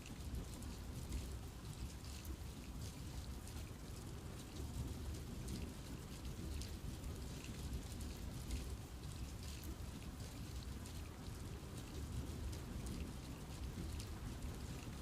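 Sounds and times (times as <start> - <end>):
rain drops pattering: 0.0 - 15.0.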